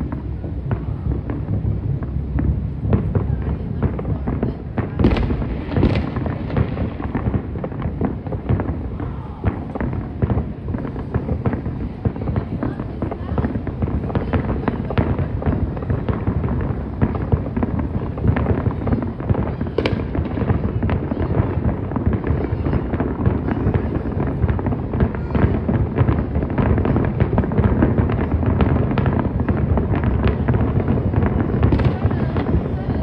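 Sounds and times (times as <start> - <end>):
fireworks banging and crackling: 0.0 - 33.0.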